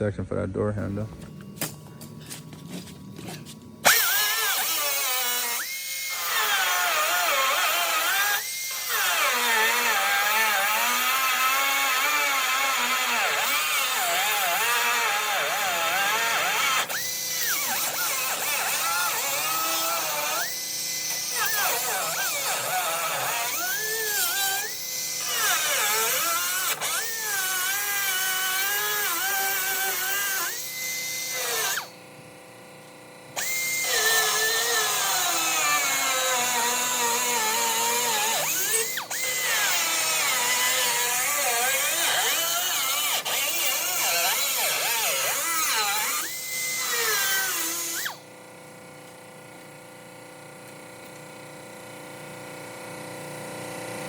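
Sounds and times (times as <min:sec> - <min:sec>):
power cutter cutting sheet steel: 0:01.3 - 0:32.0, 0:33.4 - 0:48.3.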